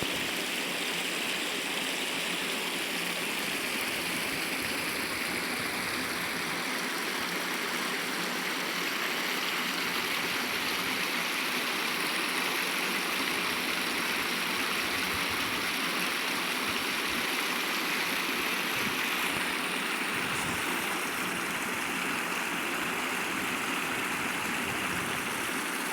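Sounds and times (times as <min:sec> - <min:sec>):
stream water running: 0:00.0 - 0:25.9.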